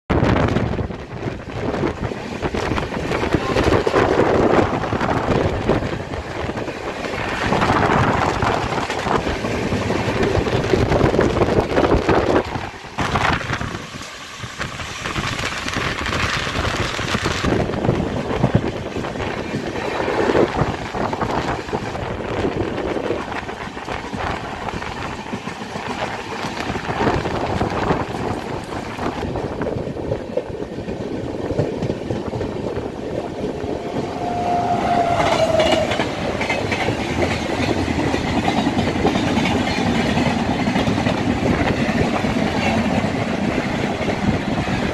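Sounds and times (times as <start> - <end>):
air rushing past train: 0.1 - 44.9
train wheels rumbling on rails: 0.1 - 44.9.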